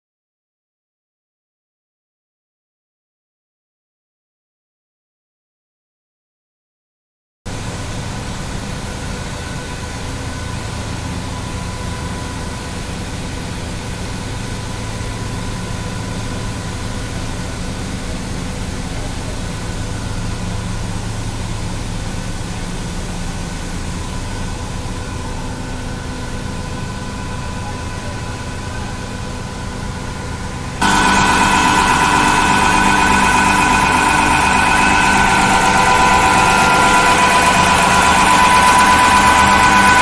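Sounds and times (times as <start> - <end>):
industrial machinery hum: 7.5 - 40.0
pump and motor whining: 7.5 - 40.0.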